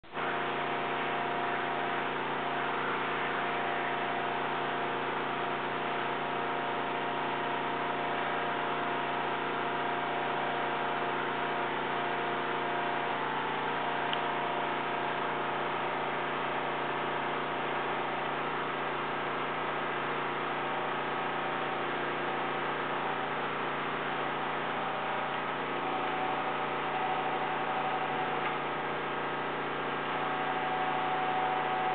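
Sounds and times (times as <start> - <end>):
air compressors droning: 0.1 - 31.9.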